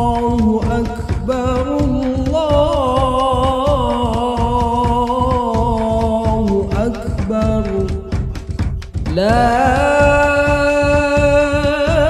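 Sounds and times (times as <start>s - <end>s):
drum strikes: 0.0s - 12.0s
song with singing over beat: 0.0s - 12.0s.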